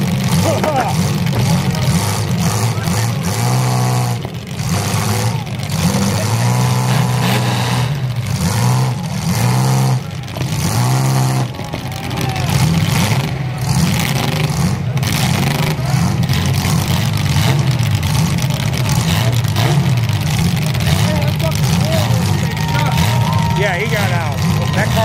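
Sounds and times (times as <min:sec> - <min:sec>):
car engines revving: 0:00.0 - 0:25.0
steady engine drone: 0:00.0 - 0:25.0.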